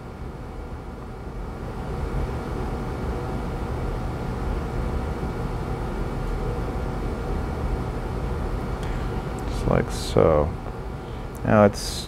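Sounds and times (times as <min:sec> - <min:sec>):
faint humming tones: 0:00.0 - 0:12.0
low mechanical rumble: 0:00.0 - 0:12.0.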